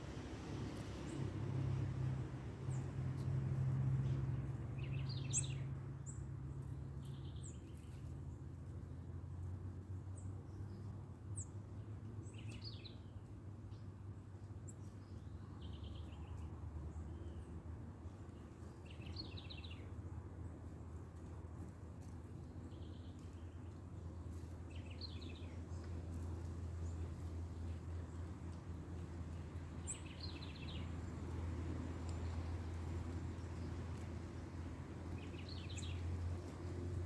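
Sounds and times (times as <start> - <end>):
small birds chirping: 4.0 - 9.0, 9.9 - 21.2, 22.0 - 37.0.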